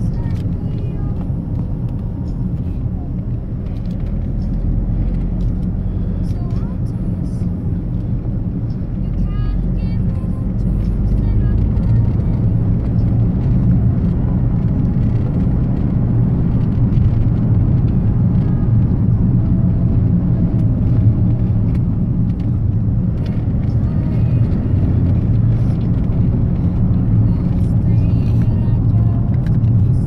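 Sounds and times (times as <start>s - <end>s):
engine and road noise hum: 0.0s - 30.0s.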